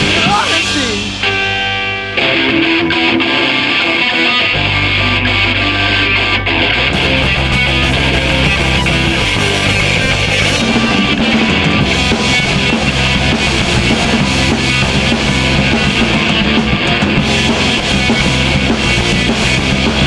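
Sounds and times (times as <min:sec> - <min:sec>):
drum kit: 0:00.0 - 0:20.0
electric guitars: 0:00.0 - 0:20.0.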